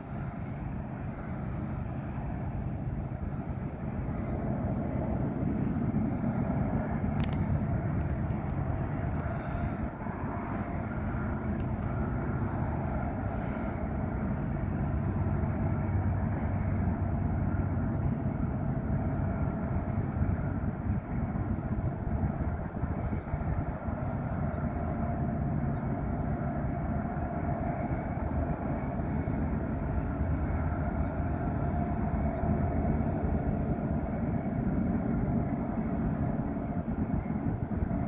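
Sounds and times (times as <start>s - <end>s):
diesel locomotives droning: 0.0s - 38.0s.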